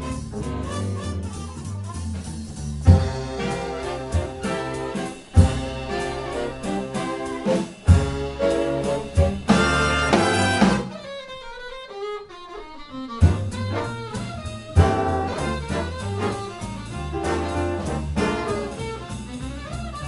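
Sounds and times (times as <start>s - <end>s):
big band playing swing jazz: 0.0s - 11.0s, 13.2s - 20.0s.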